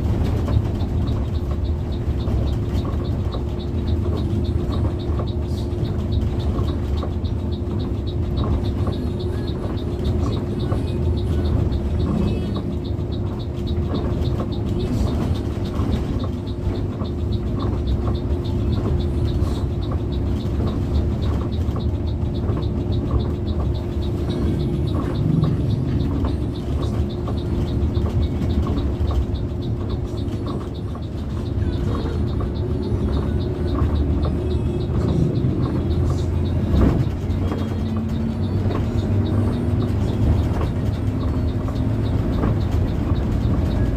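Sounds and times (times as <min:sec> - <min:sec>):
bus engine and road rumble: 0:00.0 - 0:43.9
constant hum: 0:00.0 - 0:43.9.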